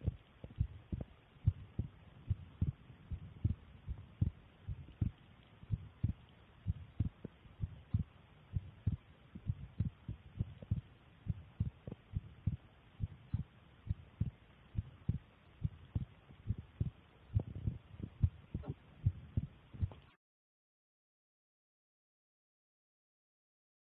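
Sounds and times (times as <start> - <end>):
heart beating: 0.0 - 20.1.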